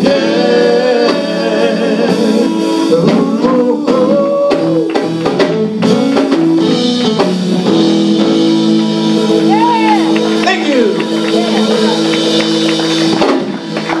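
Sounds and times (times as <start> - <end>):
drum kit: 0.0 - 14.0
electric guitar: 0.0 - 14.0
gospel band playing: 0.0 - 14.0.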